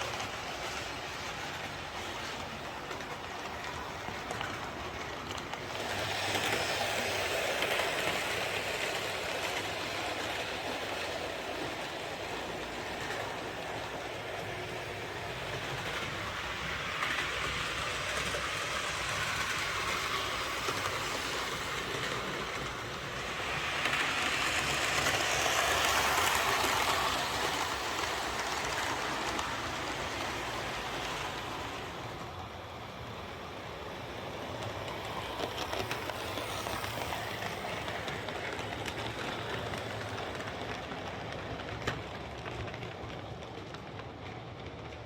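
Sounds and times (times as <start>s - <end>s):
model train motor whirring on rails: 0.0s - 45.0s.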